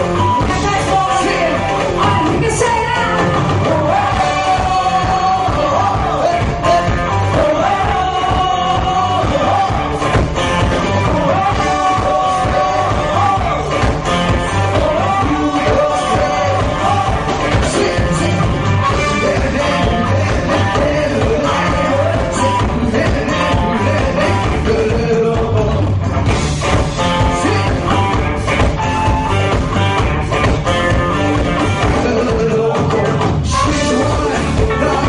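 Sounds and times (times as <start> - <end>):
pop song playing: 0.0 - 35.0.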